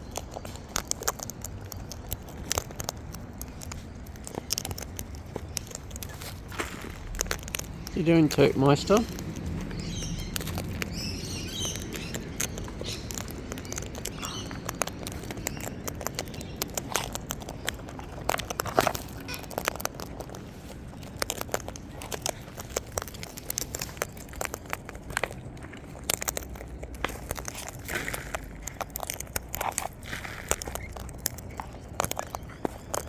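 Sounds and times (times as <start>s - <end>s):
parrots cracking seed: 0.0s - 33.0s.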